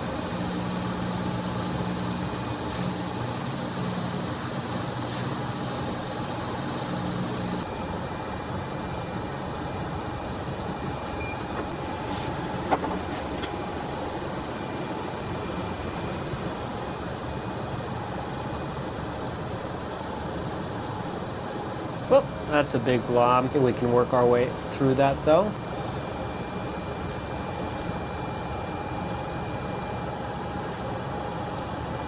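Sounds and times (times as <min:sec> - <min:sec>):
fan blower noise: 0:00.0 - 0:32.0.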